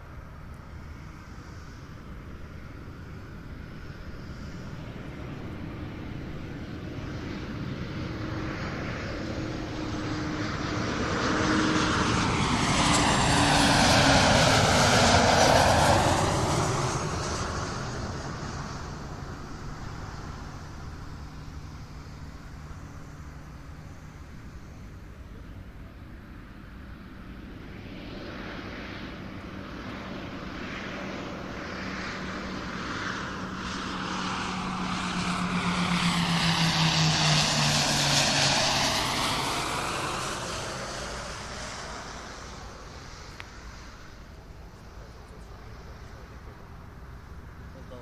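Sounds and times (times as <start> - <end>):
airliner flying overhead: 0.0 - 48.0.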